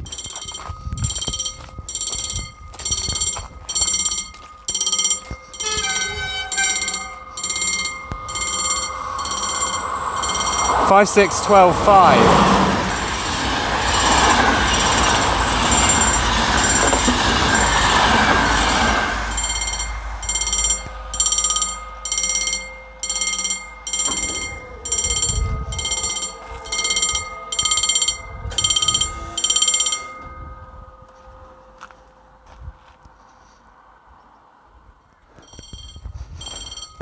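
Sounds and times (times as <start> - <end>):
train wheels rushing on rail: 0.0 - 30.0
level crossing warning bell: 0.0 - 33.5, 35.3 - 37.0.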